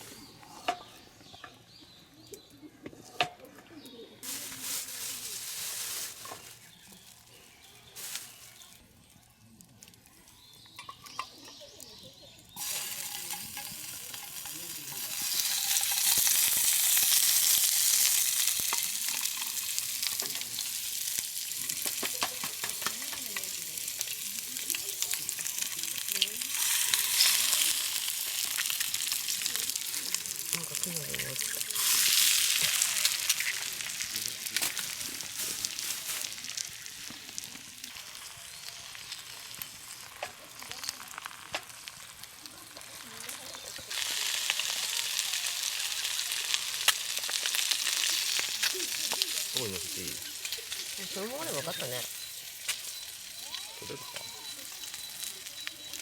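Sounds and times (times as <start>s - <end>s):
chicken sizzling in hot oil: 4.2s - 9.3s, 10.0s - 56.0s.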